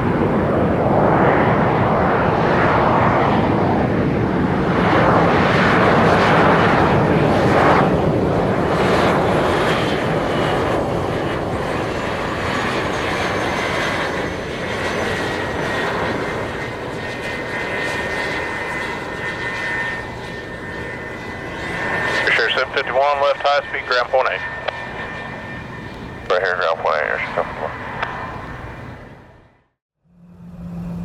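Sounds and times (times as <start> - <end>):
high turbine whine: 0.0 - 31.0
jet engines rushing: 0.0 - 31.0.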